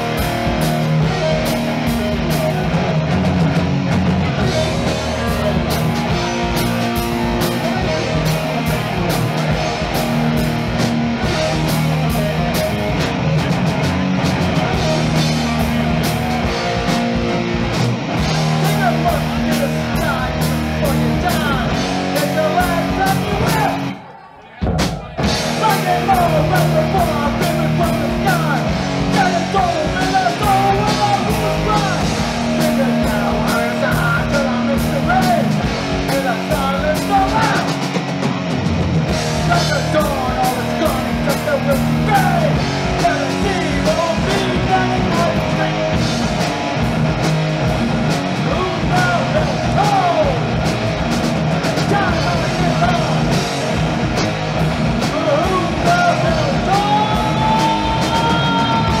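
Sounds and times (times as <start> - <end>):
loud electric guitars: 0.0 - 59.0.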